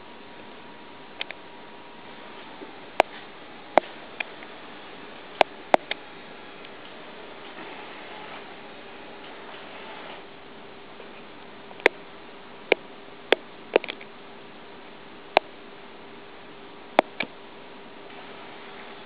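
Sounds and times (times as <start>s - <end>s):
faint hum and hiss: 0.0s - 19.0s.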